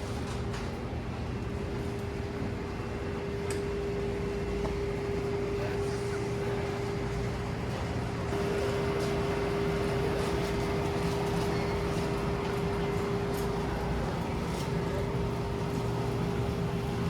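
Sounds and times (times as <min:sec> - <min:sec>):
machinery hum: 0:01.4 - 0:17.0.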